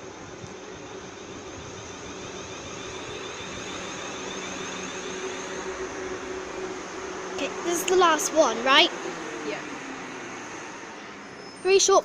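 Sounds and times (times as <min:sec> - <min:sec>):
electric train hum and whine: 0:00.0 - 0:12.0.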